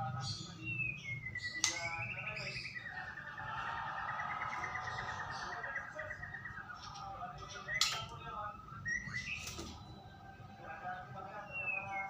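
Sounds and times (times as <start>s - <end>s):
bird singing whistles and trills: 0.2s - 10.1s, 11.4s - 12.0s.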